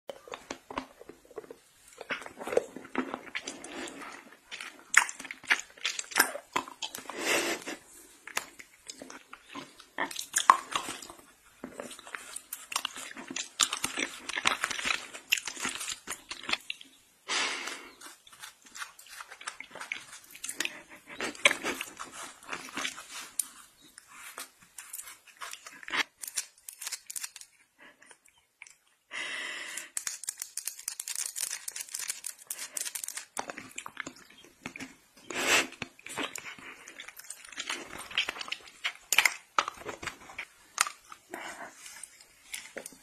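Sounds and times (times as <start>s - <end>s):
licking and sucking candy: 0.1s - 43.0s.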